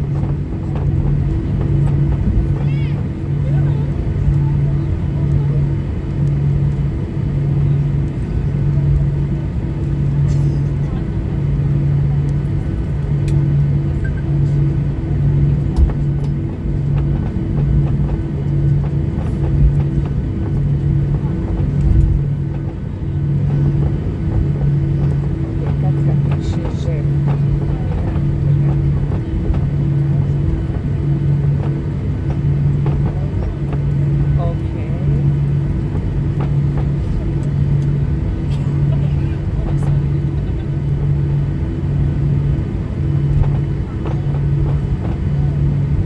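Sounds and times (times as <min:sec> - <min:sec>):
cabin rumble: 0:00.0 - 0:46.0
jet engines idling hum: 0:00.0 - 0:46.0.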